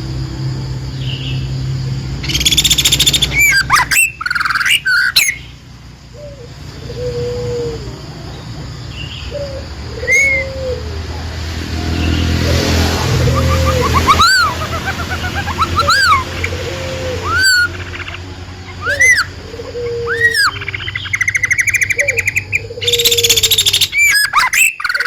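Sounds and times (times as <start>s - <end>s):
songbird trilling and whistling: 2.2s - 25.0s.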